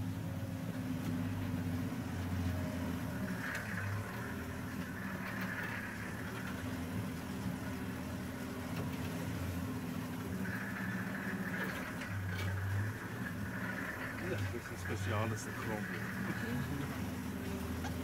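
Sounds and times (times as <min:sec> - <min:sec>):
vehicle engine running slowly: 0:00.0 - 0:18.0.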